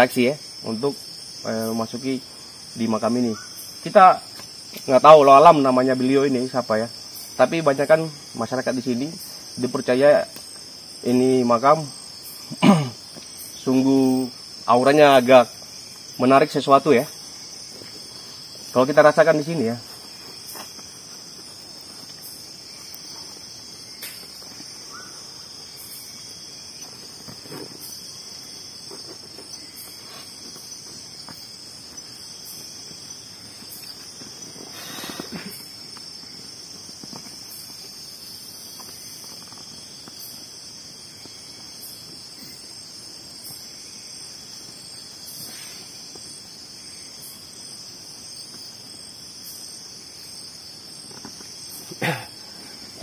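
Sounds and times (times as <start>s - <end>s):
night insects trilling: 0.0s - 53.0s.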